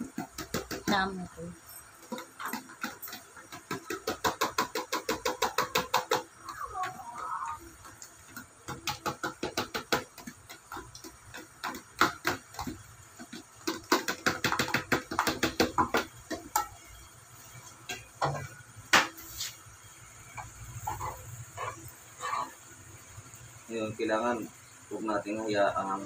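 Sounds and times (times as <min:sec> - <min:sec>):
garlic frying: 0:00.0 - 0:26.0.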